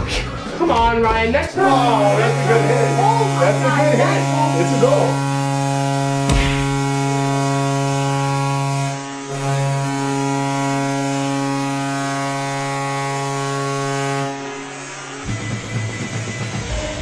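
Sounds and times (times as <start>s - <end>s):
hockey goal horn blasts: 1.6s - 16.0s.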